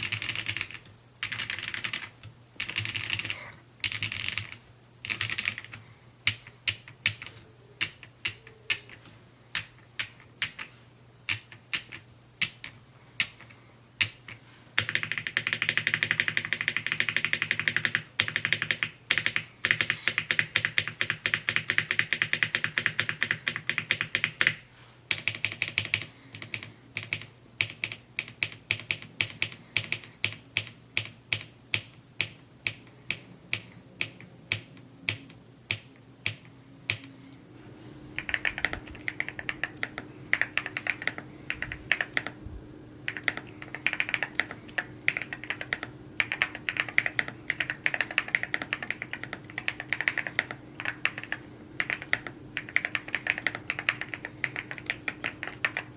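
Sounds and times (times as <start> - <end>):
mechanical keyboard typing: 0.0 - 10.7, 11.3 - 37.3, 38.2 - 42.4, 43.1 - 55.9.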